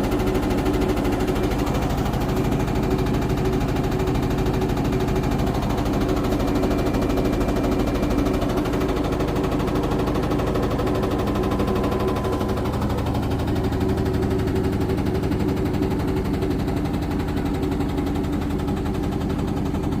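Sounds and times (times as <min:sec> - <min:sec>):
washing machine motor hum: 0:00.0 - 0:20.0
washing machine rattling: 0:00.0 - 0:20.0.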